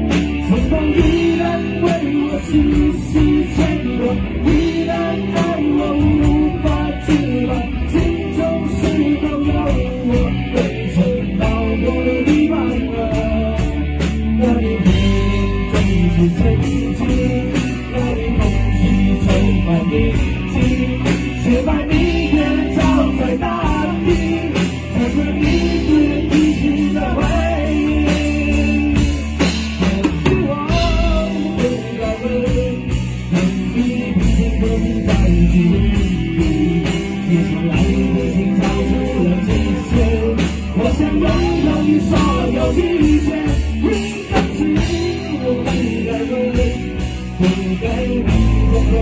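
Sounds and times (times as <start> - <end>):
rock band playing a ballad: 0.0 - 49.0.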